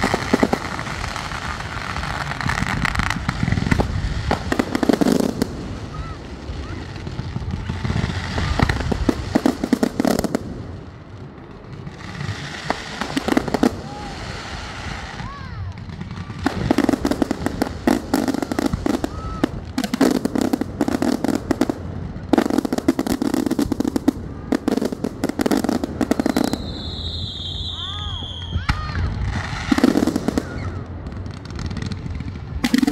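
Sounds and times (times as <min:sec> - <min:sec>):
fireworks crackling pops: 0:00.0 - 0:32.9.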